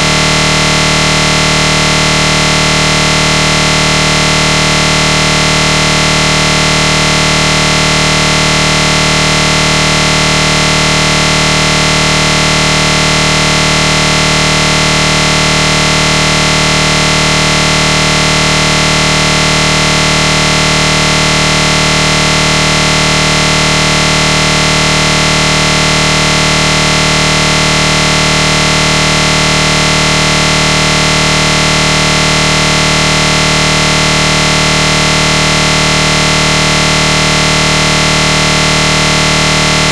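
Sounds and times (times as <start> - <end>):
loud electronic buzz: 0.0 - 39.9.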